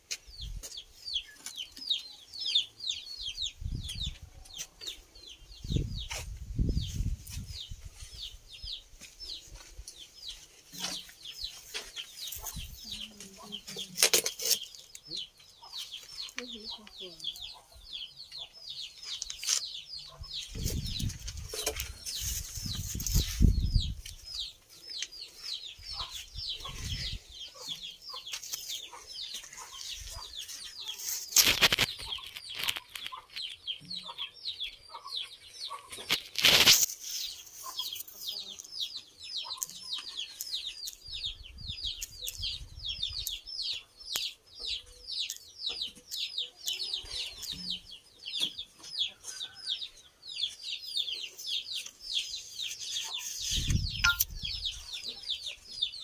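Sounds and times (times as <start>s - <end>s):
birds peeping: 0.0s - 56.0s.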